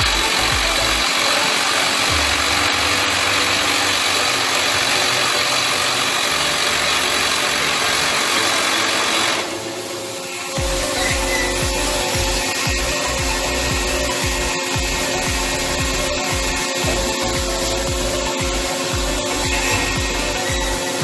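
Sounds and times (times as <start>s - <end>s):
drilling rig mechanical din: 0.0s - 21.0s.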